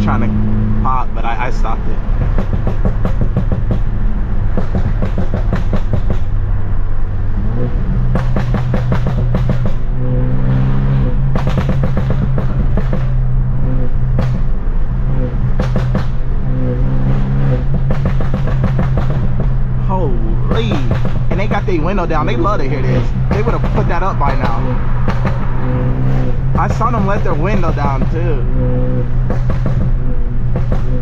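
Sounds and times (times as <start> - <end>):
exhaust pops and crackles: 0.0 - 6.6, 7.3 - 10.2, 10.9 - 31.0
car exhaust droning: 0.0 - 31.0.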